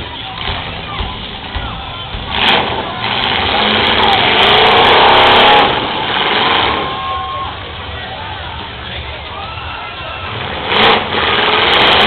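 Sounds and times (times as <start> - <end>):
car engines revving hard: 0.0 - 9.0, 10.2 - 12.0.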